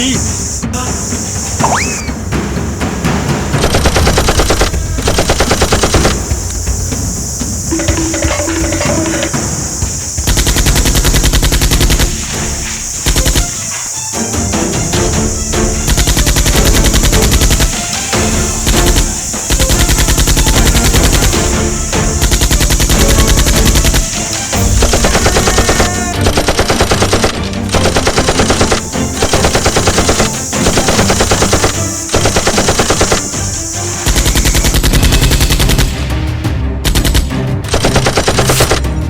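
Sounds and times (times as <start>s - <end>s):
background music: 0.0s - 39.0s
automatic gunfire bursts: 3.6s - 6.4s, 7.8s - 13.8s, 14.8s - 36.0s, 36.9s - 38.8s.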